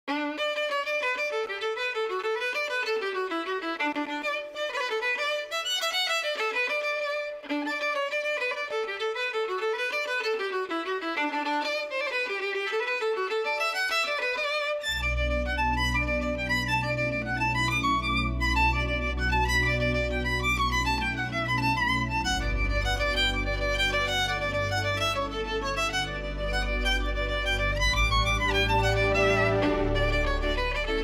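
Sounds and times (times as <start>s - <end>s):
fiddle playing quick tune: 0.1s - 31.0s.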